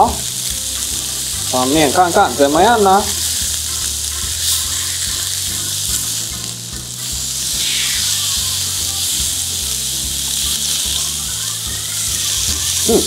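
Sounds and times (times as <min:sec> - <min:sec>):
steak sizzling on a griddle: 0:00.0 - 0:13.0.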